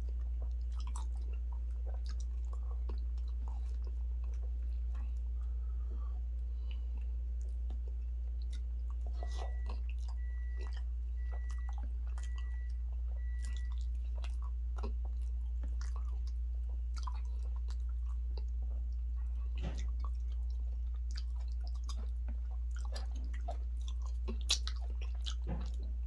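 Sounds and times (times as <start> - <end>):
person chewing: 0.0 - 26.0
steady low hum: 0.0 - 26.0.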